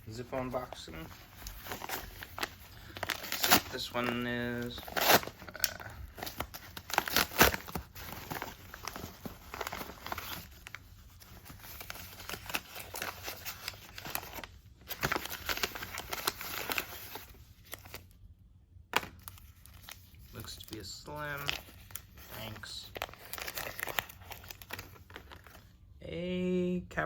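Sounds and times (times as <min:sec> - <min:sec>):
packaging crinkling and tearing: 0:00.0 - 0:18.1, 0:19.0 - 0:25.8.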